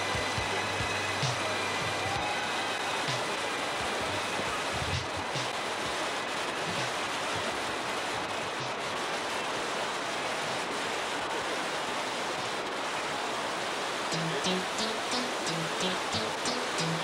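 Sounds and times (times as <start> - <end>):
river rapids rushing over boulders: 0.0 - 17.0.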